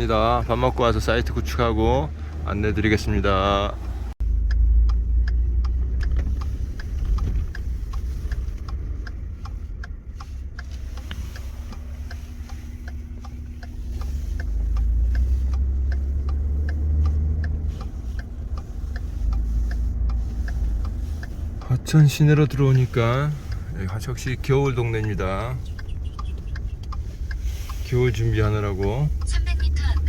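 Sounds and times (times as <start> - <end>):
car engine and road rumble: 0.0 - 30.0
turn signal ticking: 0.0 - 30.0.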